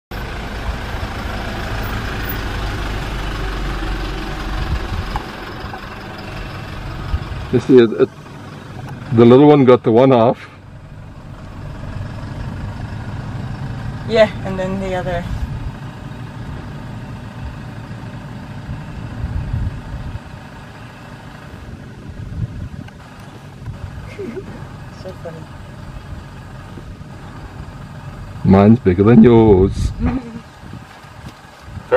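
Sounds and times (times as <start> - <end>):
vehicle engine idling: 0.1 - 31.9.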